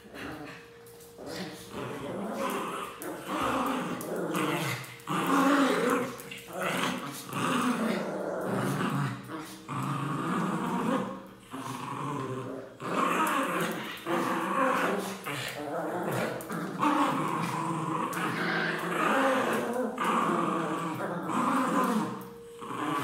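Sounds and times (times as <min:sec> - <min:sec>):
dogs growling: 0:00.0 - 0:23.0.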